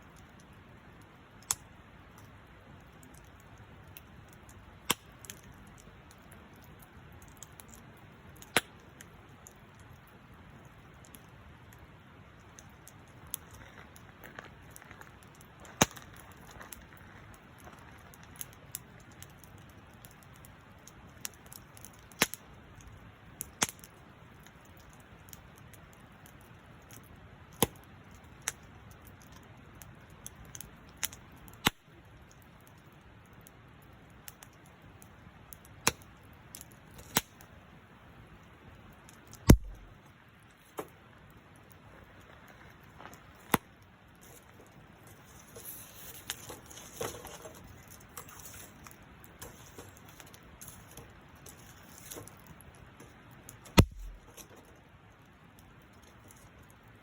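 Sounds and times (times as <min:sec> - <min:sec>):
wood bonfire crackling: 0:00.0 - 0:57.0.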